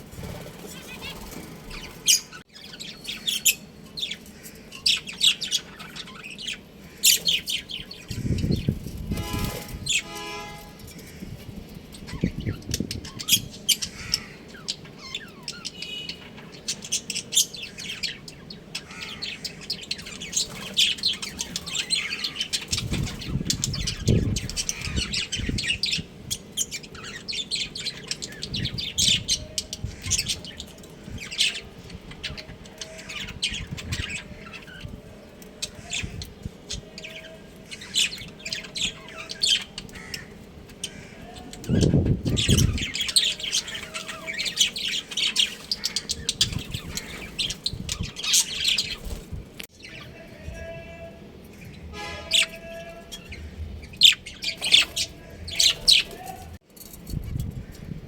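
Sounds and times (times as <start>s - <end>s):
budgerigars chirping and squawking: 0.2s - 50.2s, 51.5s - 56.5s.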